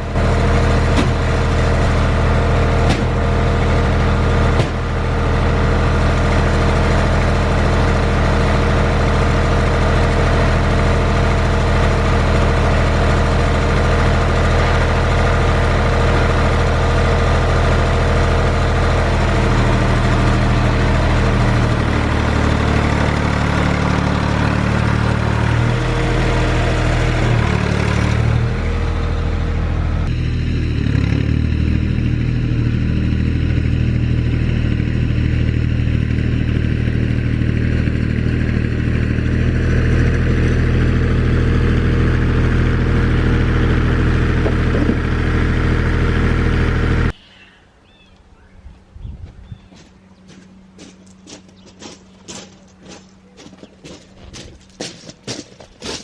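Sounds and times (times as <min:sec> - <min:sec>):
engine running: 0:00.0 - 0:47.2, 0:47.9 - 0:56.0.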